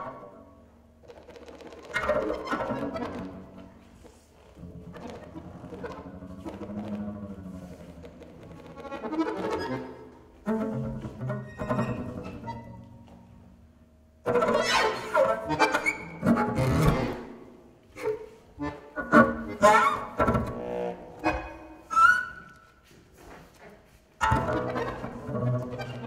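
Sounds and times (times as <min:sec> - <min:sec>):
bowed double bass: 0:01.9 - 0:22.6, 0:24.2 - 0:26.0.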